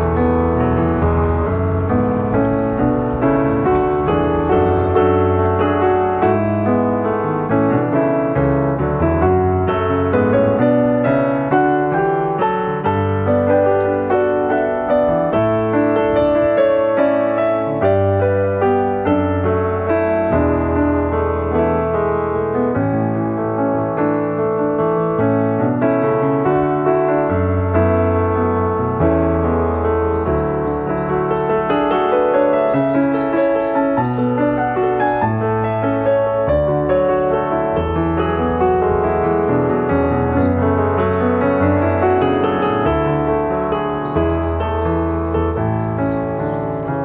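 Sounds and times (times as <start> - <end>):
piano music: 0.0 - 47.0.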